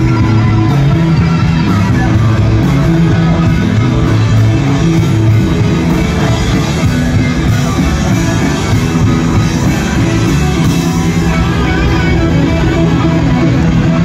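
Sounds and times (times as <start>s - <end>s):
bass guitar: 0.0s - 14.0s
drum kit: 0.0s - 14.0s
electric guitars: 0.0s - 14.0s.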